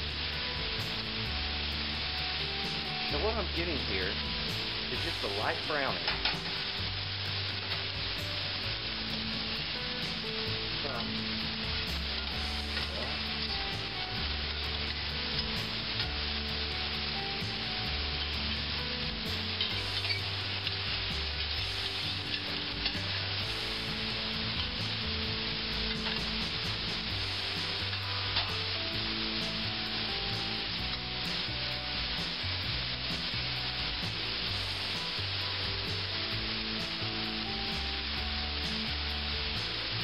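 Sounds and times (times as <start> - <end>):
low background music: 0.0 - 40.0
mushrooms sizzling in a pan: 0.0 - 40.0.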